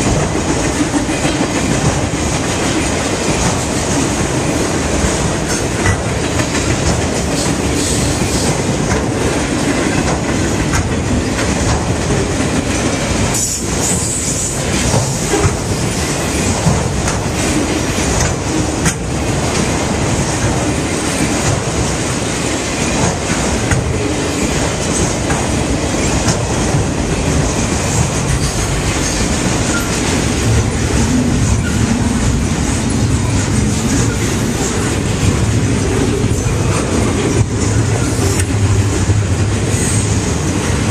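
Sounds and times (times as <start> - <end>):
train wheels clacking over rail joints: 0.0 - 40.9.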